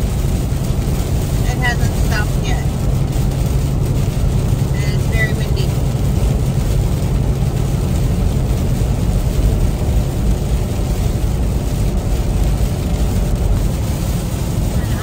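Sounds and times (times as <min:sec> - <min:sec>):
rain: 0:00.0 - 0:15.0
truck engine drone: 0:00.0 - 0:15.0
tyres hissing on wet road: 0:00.0 - 0:15.0.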